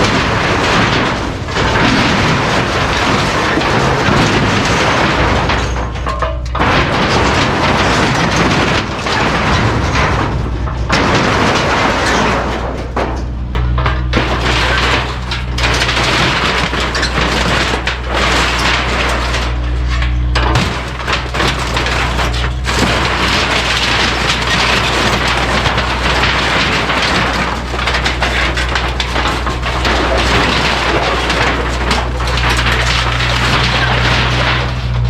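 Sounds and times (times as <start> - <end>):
debris crashing and clattering: 0.0 - 35.0
excavator diesel engine running: 0.0 - 35.0.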